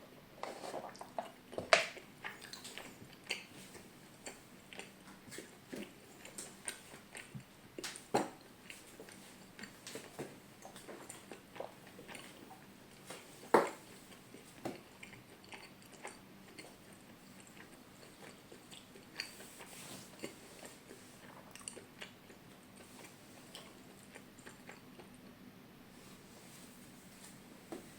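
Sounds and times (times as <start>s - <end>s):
chewing with wet clicks: 0.8s - 25.3s.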